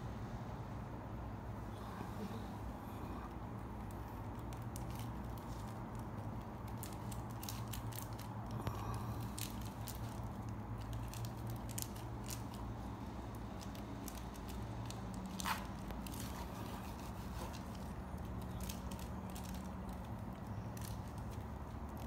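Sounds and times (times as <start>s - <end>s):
dried herbs crackling: 3.0s - 22.0s.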